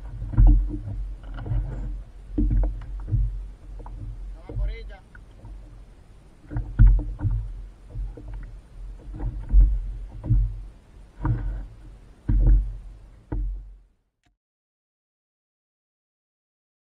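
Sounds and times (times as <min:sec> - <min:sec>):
water sloshing against kayak hull: 0:00.0 - 0:13.9.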